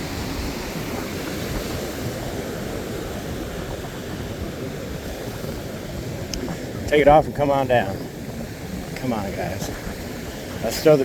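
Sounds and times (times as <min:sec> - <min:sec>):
ocean surf on beach: 0:00.0 - 0:11.0
wind rumbling on microphone: 0:00.0 - 0:11.0.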